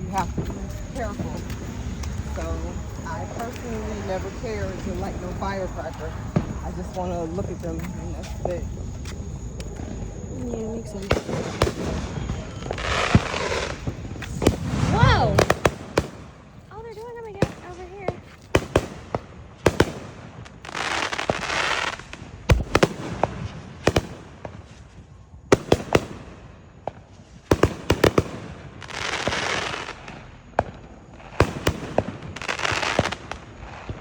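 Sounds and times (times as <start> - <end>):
fireworks bangs and pops: 0.0 - 34.0
fireworks hissing crackle: 0.0 - 34.0.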